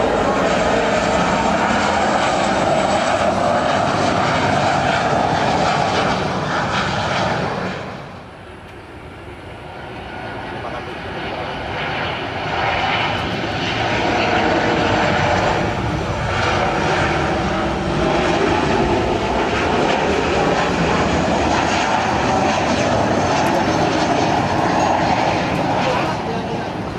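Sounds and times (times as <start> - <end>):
jet airliner engines: 0.0 - 26.9.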